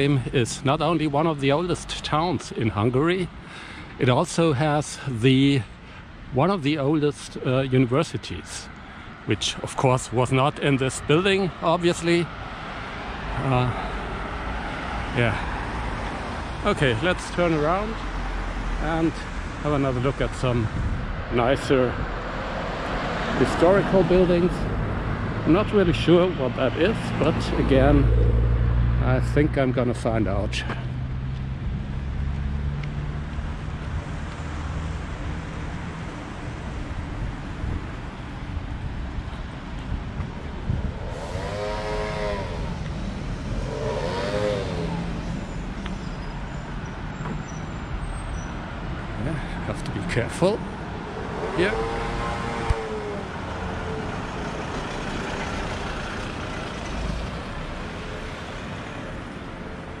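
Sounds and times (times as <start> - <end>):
road noise: 0.0 - 60.0
cars driving past: 7.6 - 60.0
vehicle engine humming: 10.6 - 60.0.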